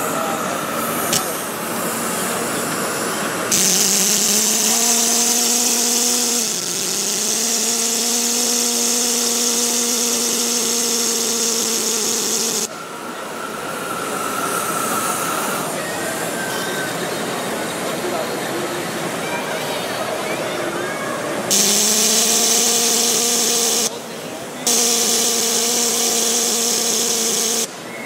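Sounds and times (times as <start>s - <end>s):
steam hissing loudly: 0.0s - 20.4s, 21.4s - 28.0s
hall background noise: 0.0s - 28.0s.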